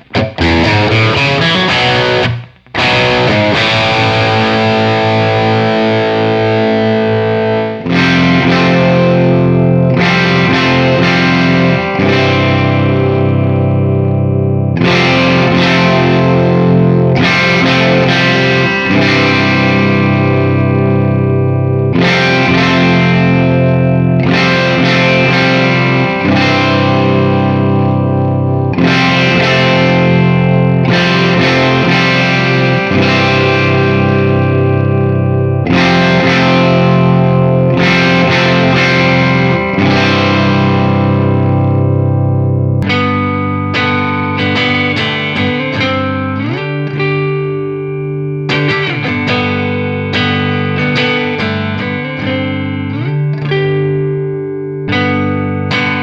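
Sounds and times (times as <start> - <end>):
overdriven electric guitar chords: 0.0 - 56.0.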